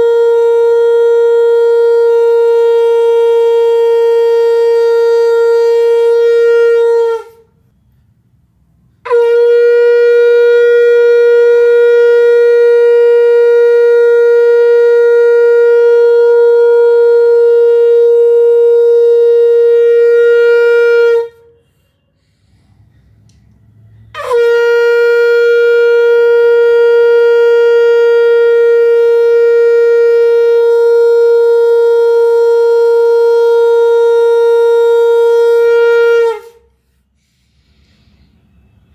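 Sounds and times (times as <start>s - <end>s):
conch shell blasts: 0.0s - 7.9s, 8.9s - 22.3s, 23.7s - 36.8s.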